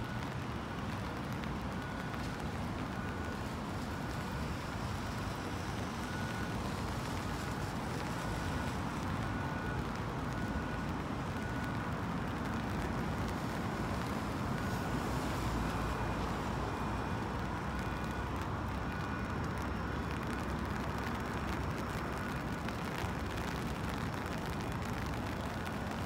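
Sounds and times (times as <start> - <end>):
traffic rumble: 0.0 - 26.0
tyres hissing on wet road: 0.0 - 26.0.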